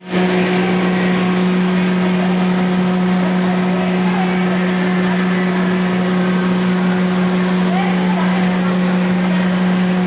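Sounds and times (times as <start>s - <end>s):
wood pulverizer running: 0.0s - 10.0s.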